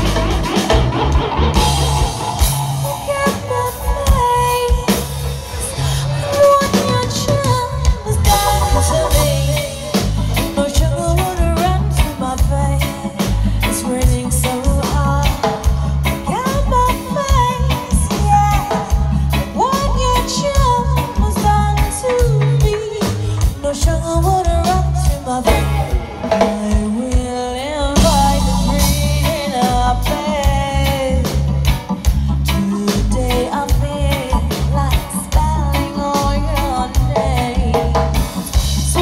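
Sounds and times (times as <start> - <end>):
live reggae band playing: 0.0 - 39.0
woman singing: 2.8 - 39.0.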